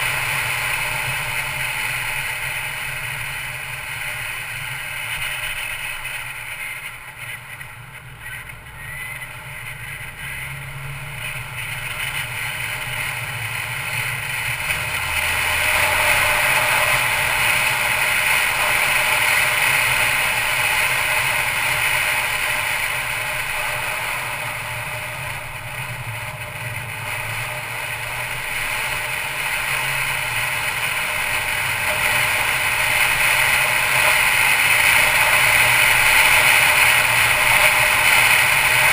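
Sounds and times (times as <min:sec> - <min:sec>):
car engine hum: 0:00.0 - 0:38.9
road and wind noise: 0:00.0 - 0:38.9.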